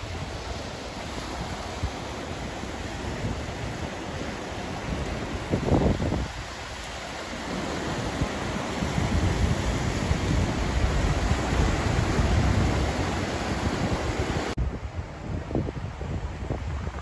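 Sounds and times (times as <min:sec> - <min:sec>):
small waves washing on rocks: 0:00.0 - 0:14.6
wind rumbling on microphone: 0:00.0 - 0:17.0.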